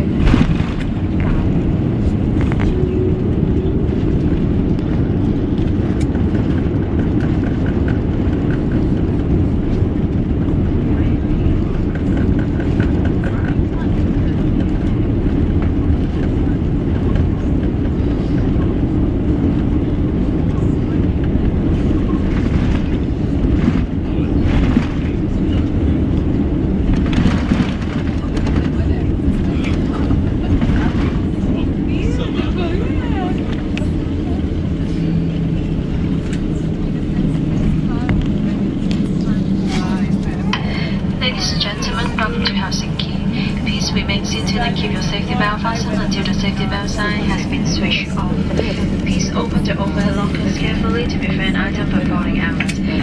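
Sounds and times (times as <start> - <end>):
airplane rollout rumble in cabin: 0.0 - 53.0.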